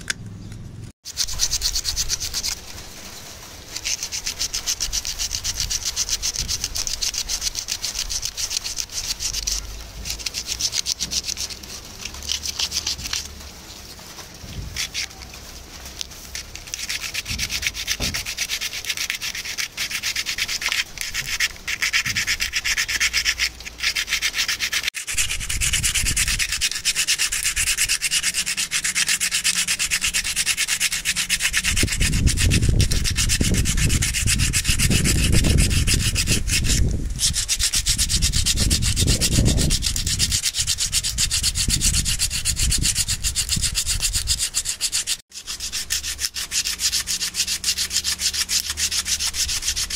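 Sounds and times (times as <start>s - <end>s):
sandpaper rubbing on wood: 1.0s - 49.9s.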